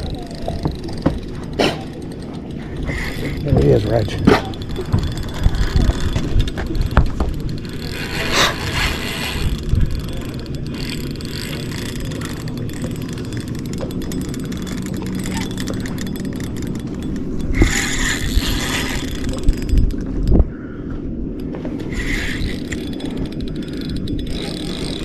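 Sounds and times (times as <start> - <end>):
fishing reel clicking: 0.0 - 20.4, 21.4 - 25.0.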